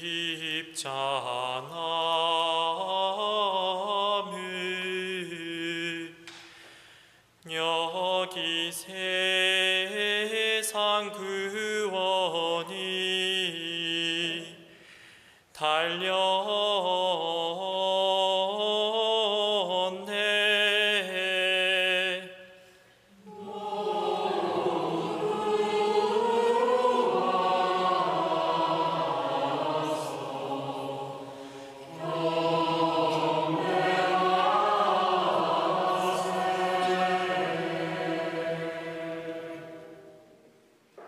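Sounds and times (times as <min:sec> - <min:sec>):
congregation singing: 0:00.0 - 0:06.7, 0:07.5 - 0:15.0, 0:15.6 - 0:41.0.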